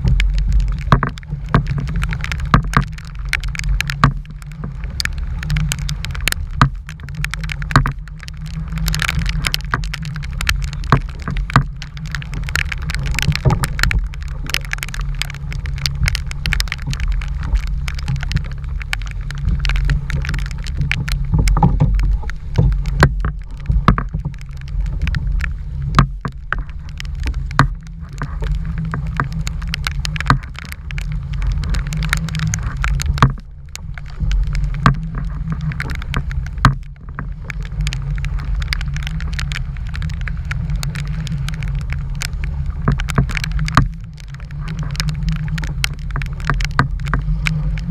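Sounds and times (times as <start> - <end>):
sharp taps and clicks: 0.0 - 47.9
strong wind rumbling on microphone: 0.0 - 47.9.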